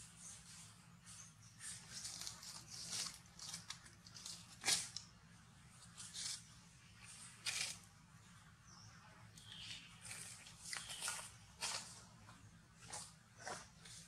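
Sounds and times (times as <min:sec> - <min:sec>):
soft crackling and crunching: 0:00.4 - 0:08.4, 0:09.2 - 0:14.0.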